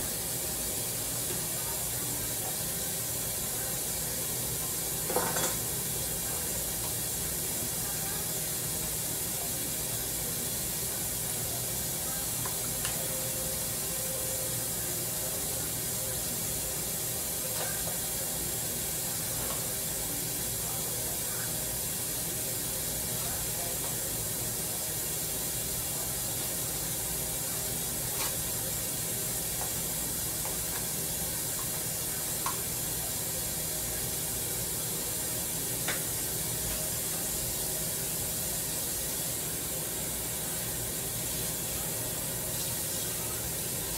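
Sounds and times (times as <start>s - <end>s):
food sizzling and steaming: 0.0s - 43.9s.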